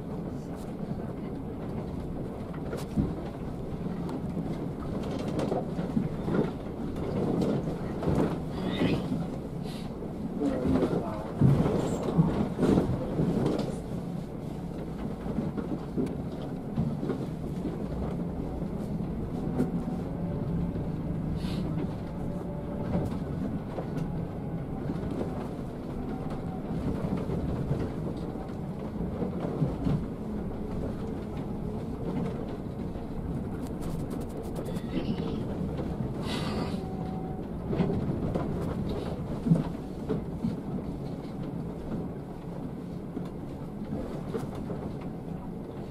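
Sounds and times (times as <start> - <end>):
bus body rumbling and rattling: 0.0 - 45.9
diesel engine running low: 5.6 - 45.9.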